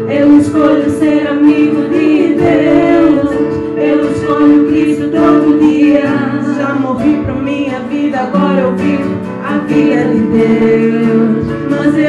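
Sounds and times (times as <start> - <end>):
acoustic guitar: 0.0 - 12.0
woman and man singing: 0.0 - 12.0.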